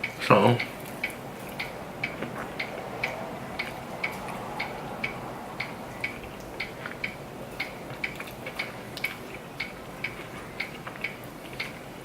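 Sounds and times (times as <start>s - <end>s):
faint irregular clicks: 0.0s - 11.8s
clock ticking: 0.0s - 11.9s.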